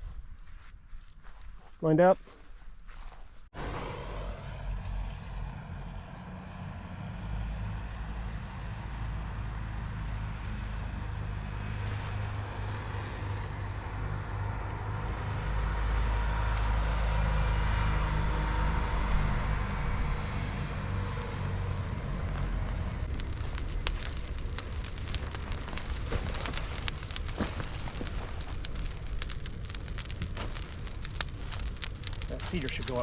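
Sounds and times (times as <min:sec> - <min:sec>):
brush fire crackling and popping: 0:02.5 - 0:33.0
engine humming: 0:03.6 - 0:33.0.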